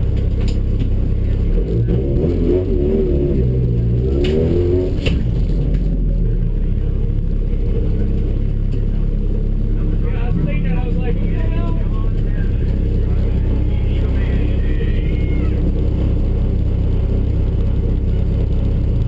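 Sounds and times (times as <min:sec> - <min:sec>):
truck engine idling loudly: 0:00.0 - 0:01.7, 0:05.0 - 0:19.0.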